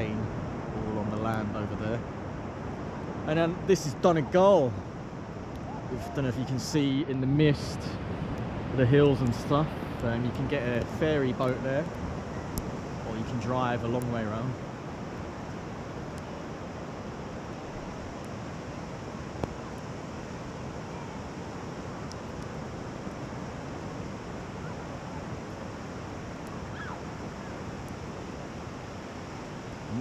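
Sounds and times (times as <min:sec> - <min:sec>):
surf breaking on beach: 0:05.6 - 0:30.0.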